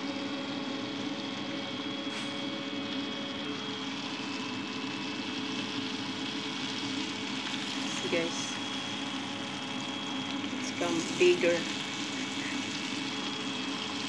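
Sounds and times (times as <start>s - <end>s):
chicken deep-frying in oil: 0.0s - 14.0s
steady mechanical hum: 0.0s - 14.0s.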